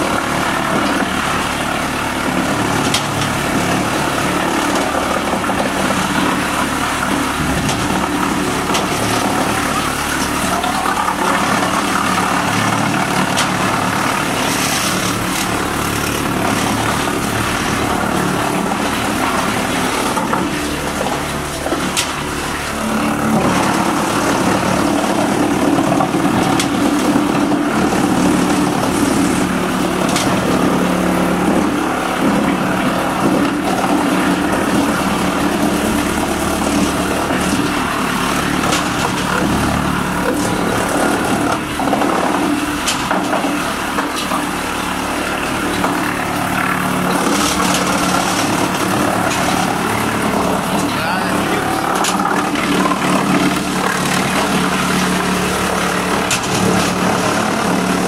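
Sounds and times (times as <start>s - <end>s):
wood chipper running: 0.0s - 58.0s.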